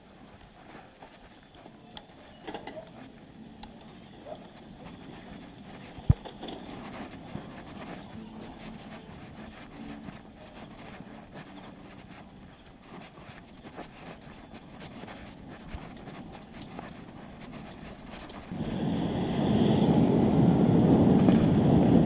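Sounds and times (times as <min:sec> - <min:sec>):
bicycle rattles and rustling: 0:00.0 - 0:22.0.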